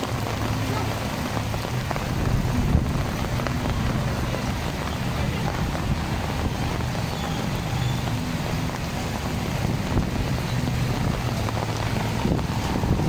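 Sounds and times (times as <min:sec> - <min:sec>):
engine humming: 0:00.0 - 0:13.0
wind noise on microphone: 0:00.0 - 0:13.0.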